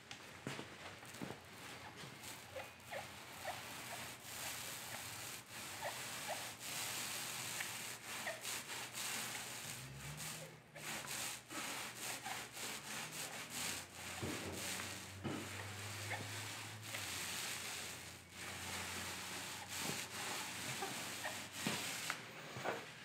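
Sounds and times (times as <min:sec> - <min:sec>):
paint roller rubbing on metal: 0:01.0 - 0:23.0.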